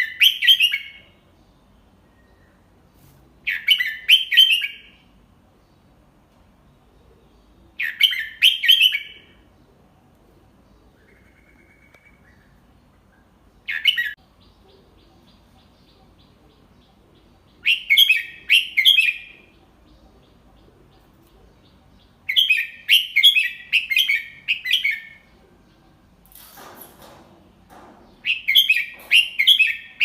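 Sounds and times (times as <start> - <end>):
bird singing: 0.0 - 2.8, 6.6 - 9.8, 10.5 - 26.3, 27.7 - 30.0.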